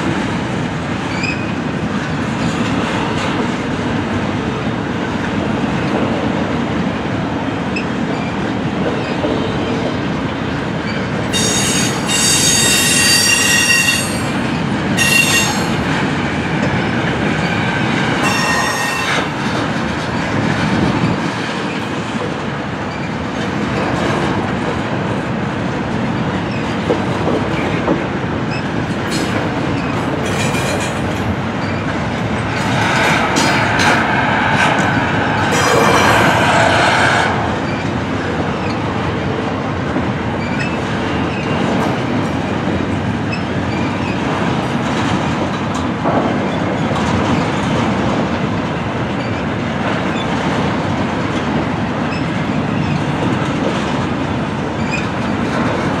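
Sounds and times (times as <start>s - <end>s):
freight train wheels rumbling on rail: 0.0s - 56.0s
rail joints clickety-clack: 0.0s - 56.0s.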